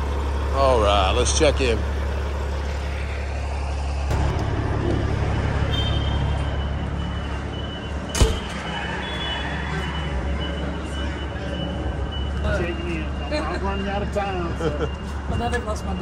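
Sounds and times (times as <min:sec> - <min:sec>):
diesel trucks idling: 0:00.0 - 0:16.0.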